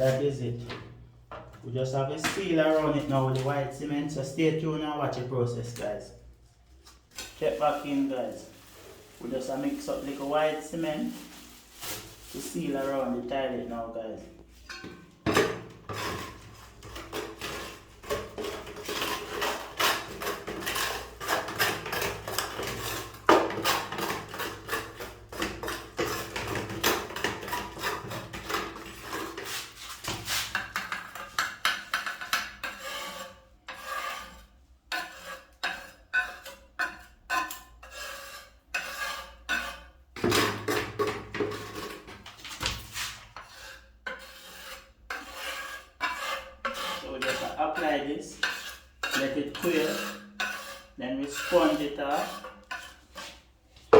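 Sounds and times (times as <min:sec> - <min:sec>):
gritty scraping of cement: 0:04.8 - 0:14.9, 0:15.8 - 0:53.9.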